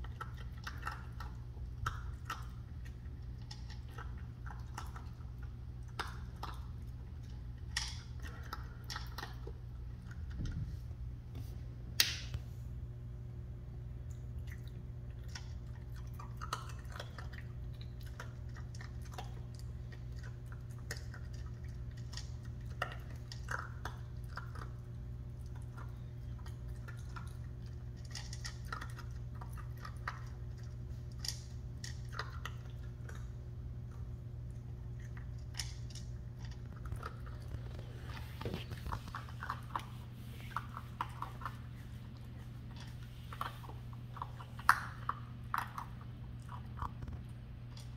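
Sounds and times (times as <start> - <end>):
puppy crunching dry kibble: 0.0 - 12.3, 13.9 - 47.9
steady low hum: 0.0 - 47.9.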